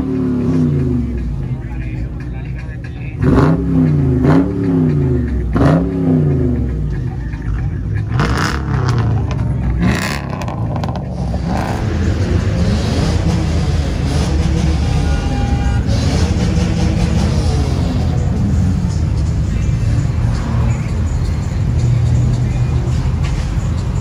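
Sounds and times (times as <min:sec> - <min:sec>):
car engine revving: 0:00.0 - 0:02.2, 0:02.9 - 0:24.0.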